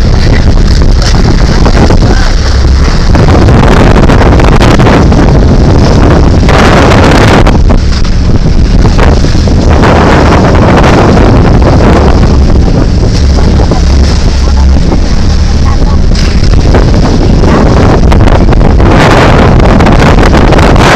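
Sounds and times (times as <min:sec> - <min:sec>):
steady low rumble: 0:00.0 - 0:20.9
water surging: 0:00.0 - 0:20.9
wind buffeting the microphone: 0:00.0 - 0:20.9.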